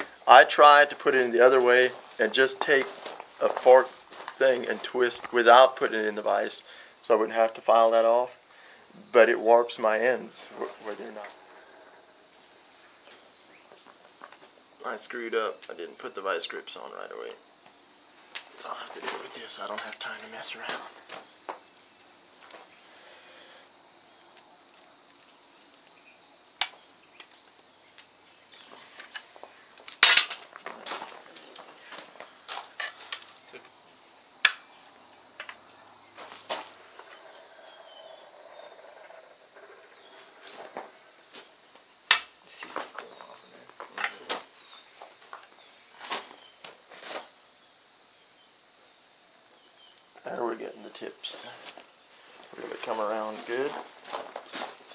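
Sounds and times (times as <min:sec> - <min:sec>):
high insect drone: 0:00.0 - 0:54.9.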